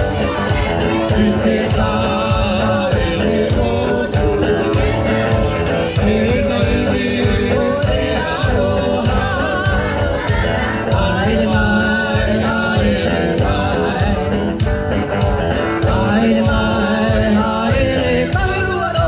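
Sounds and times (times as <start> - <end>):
held bass notes: 0.0 - 19.0
singing over a steady beat: 0.0 - 19.0.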